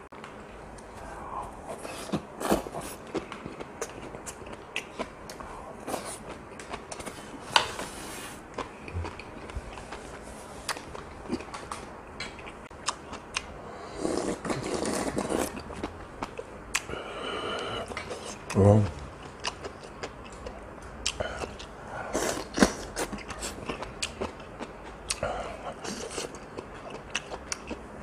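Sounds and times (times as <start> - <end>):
chewing food: 1.9 - 7.8, 8.5 - 16.9, 17.6 - 27.9.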